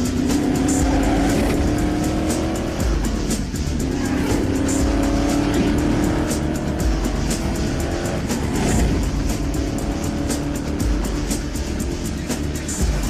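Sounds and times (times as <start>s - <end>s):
car engine running: 0.0s - 13.0s
music with steady beat: 0.0s - 13.0s.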